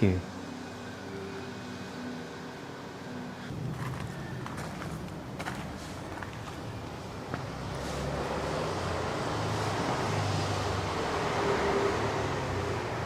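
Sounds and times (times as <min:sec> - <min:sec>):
steady rushing noise with hum: 0:00.0 - 0:13.0.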